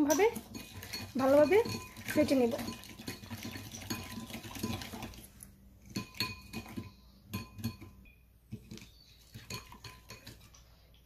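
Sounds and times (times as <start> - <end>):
whisk clinking against bowl: 0.0 - 10.7.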